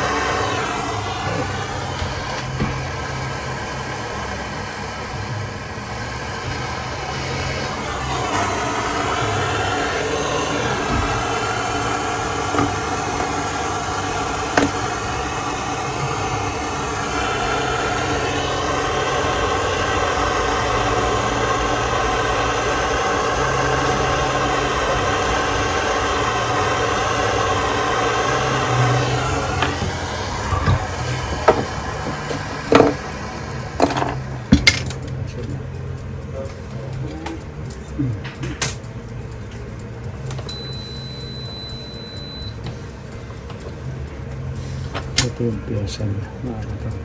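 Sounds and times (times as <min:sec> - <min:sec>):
small motor running: 0:00.0 - 0:47.0.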